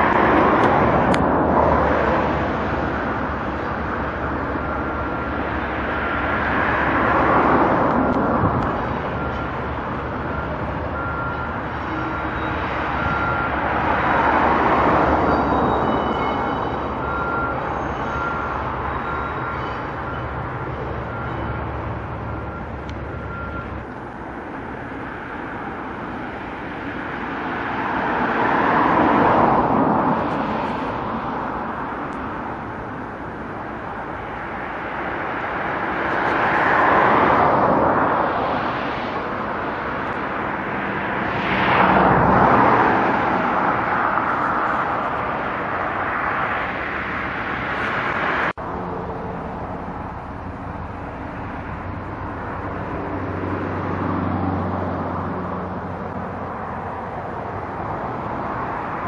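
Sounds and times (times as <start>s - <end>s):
outdoor background: 0.0s - 59.0s
train rushing past: 0.0s - 59.0s.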